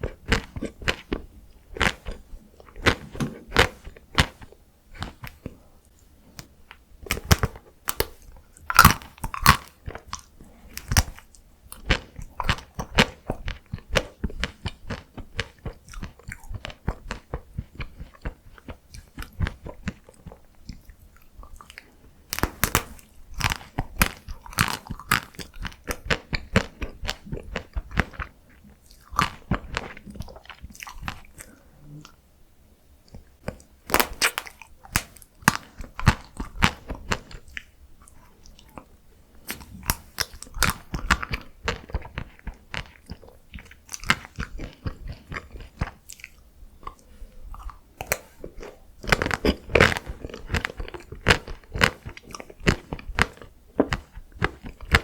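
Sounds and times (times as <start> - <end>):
biting and chewing crunchy food: 0.0 - 5.6, 6.4 - 32.2, 33.1 - 55.0.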